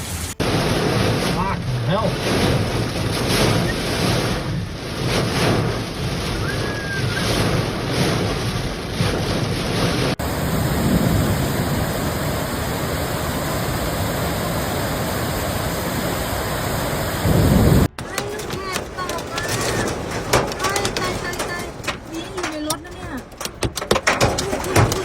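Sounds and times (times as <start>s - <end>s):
wind buffeting microphone: 0.4s - 25.0s.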